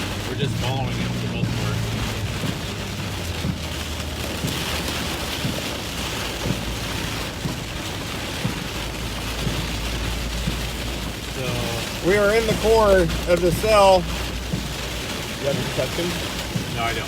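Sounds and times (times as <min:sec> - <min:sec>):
car driving drone: 0:00.0 - 0:17.0
heavy rain on a car: 0:00.0 - 0:17.0.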